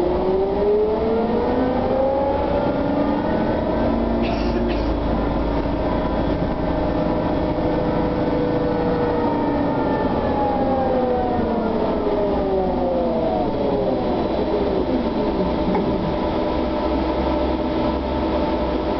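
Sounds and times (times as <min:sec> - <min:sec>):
trolleybus electric motor whine: 0:00.0 - 0:18.9.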